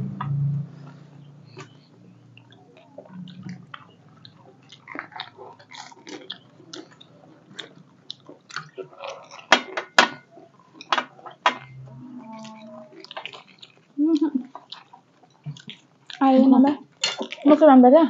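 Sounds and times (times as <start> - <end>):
chewing crisp shells: 1.5 - 17.6.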